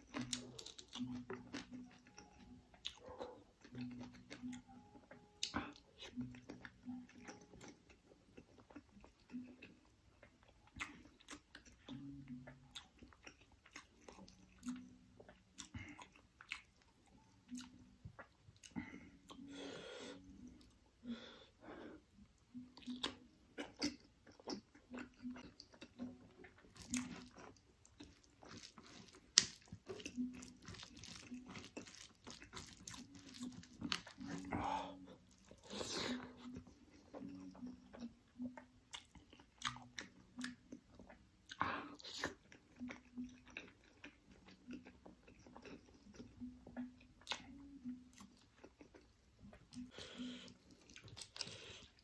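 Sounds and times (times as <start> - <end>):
wet chewing and mouth smacking: 0.0 - 19.5, 22.2 - 52.0.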